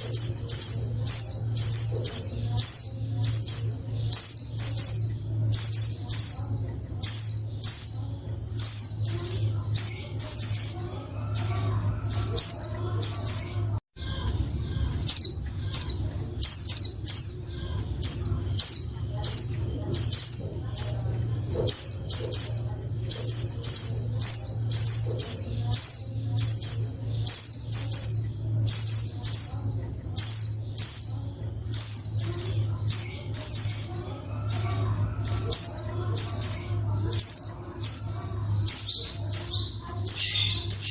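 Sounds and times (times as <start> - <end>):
bird chirping: 0.0 - 40.9
low steady hum: 0.0 - 40.9.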